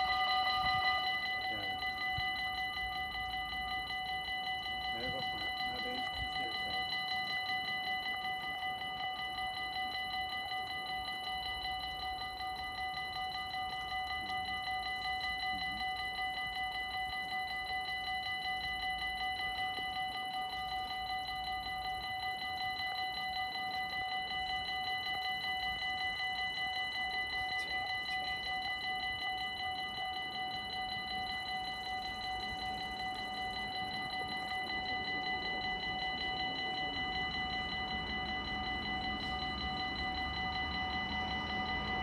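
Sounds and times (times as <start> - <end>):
level-crossing warning bells: 0.0 - 42.0.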